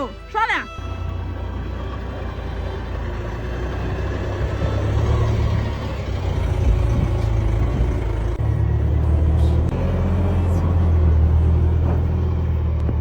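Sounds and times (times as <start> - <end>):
vehicle engine under load: 0.8 - 13.0.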